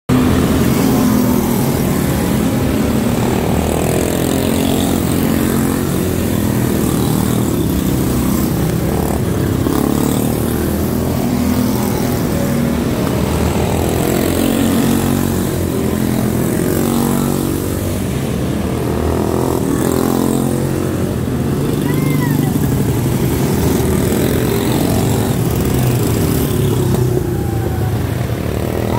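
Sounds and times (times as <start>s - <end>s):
race car engines passing: 0.1s - 28.9s.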